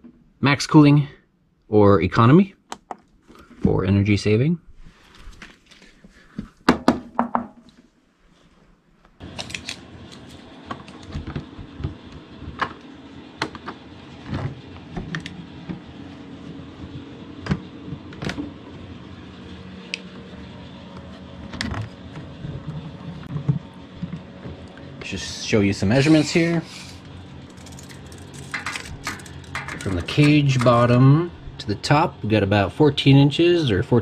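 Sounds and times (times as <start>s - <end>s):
fridge low hum: 0.0s - 34.0s.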